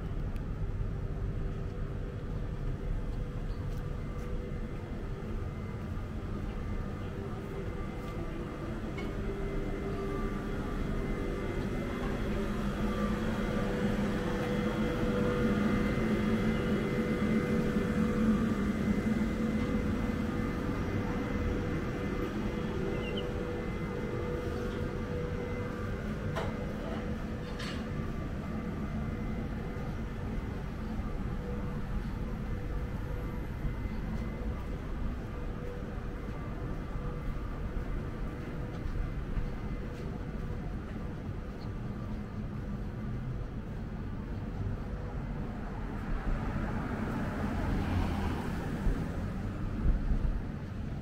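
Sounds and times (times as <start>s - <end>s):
mechanical hum with held tones: 0.0s - 51.0s.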